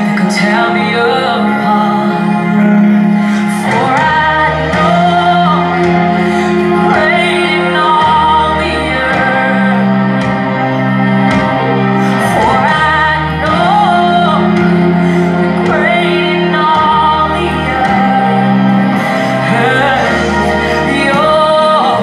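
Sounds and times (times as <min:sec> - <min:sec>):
sustained chords: 0:00.0 - 0:22.0
woman singing: 0:00.0 - 0:22.0.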